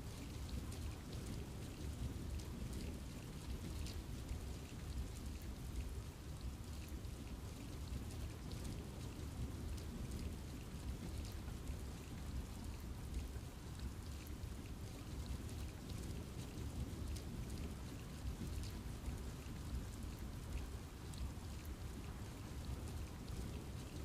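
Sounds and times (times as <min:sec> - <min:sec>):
raindrops ticking on leaves: 0:00.0 - 0:24.0.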